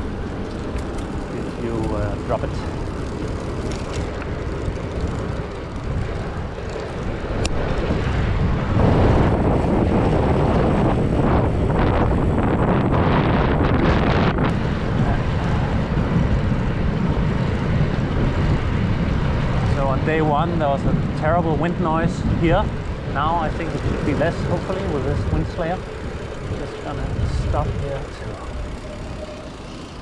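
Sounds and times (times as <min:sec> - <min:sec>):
wind buffeting on microphone: 0:00.0 - 0:30.0.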